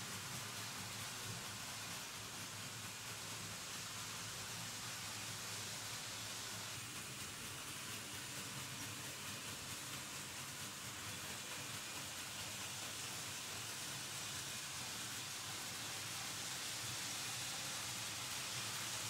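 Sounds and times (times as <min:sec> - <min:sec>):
model train wheels rattling on rails: 0:00.0 - 0:19.0.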